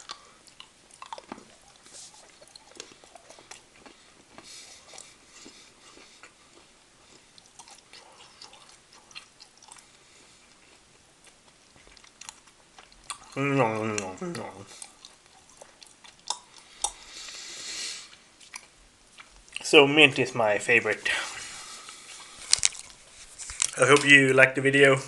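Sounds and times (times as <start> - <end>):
faint chewing: 0.0 - 19.7, 21.0 - 24.2
mouth clicks and crackles: 0.0 - 20.2, 21.0 - 24.3.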